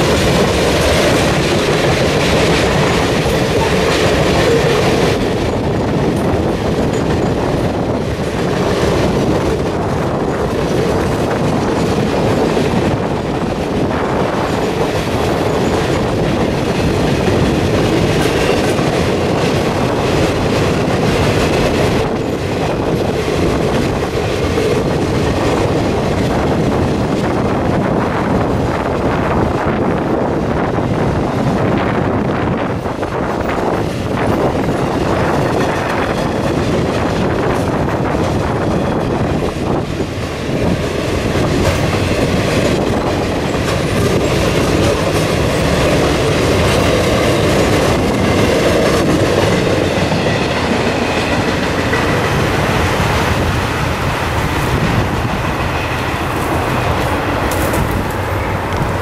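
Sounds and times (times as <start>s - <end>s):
clickety-clack over rail joints: 0.0s - 59.0s
freight train wheels rumbling: 0.0s - 59.0s.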